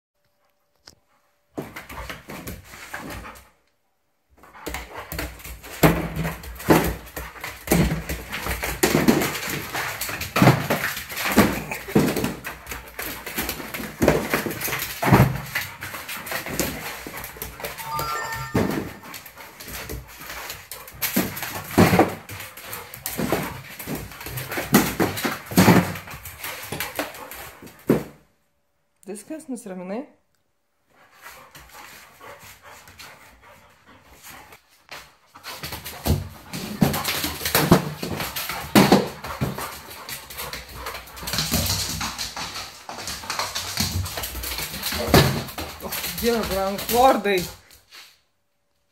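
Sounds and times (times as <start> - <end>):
dog thumping and scuffling: 1.5 - 3.5, 4.4 - 17.9, 18.5 - 28.3, 31.0 - 47.8.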